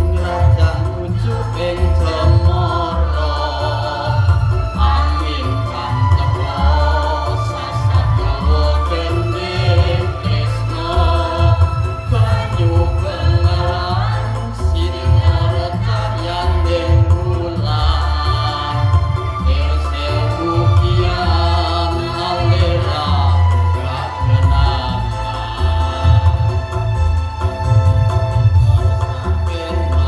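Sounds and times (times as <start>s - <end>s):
electronic keyboard accompaniment: 0.0s - 30.0s
mixed choir singing: 0.0s - 30.0s.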